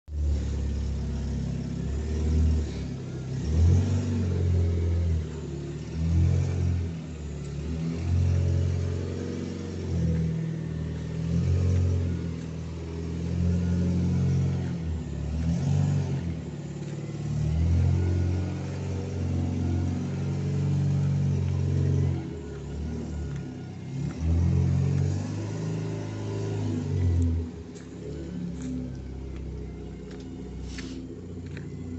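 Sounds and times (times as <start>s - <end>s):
car engine revving with rumble: 0.0s - 31.9s.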